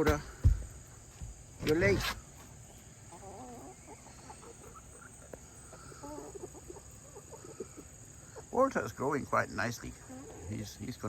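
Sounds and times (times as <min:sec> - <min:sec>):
insects chorus: 0:00.0 - 0:11.0
chickens clucking softly: 0:01.6 - 0:11.0.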